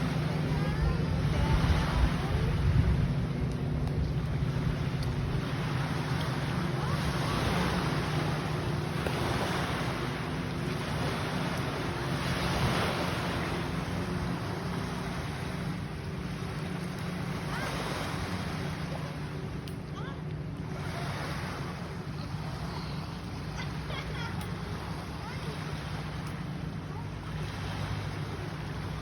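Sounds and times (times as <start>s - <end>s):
low motor hum: 0.0s - 29.0s.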